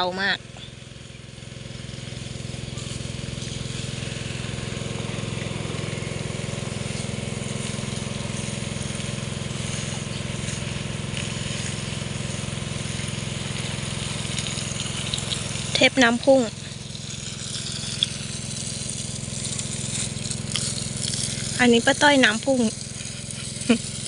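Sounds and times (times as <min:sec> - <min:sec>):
water pump motor humming: 0:00.0 - 0:24.0
hiss of spray hoses misting: 0:01.6 - 0:24.0.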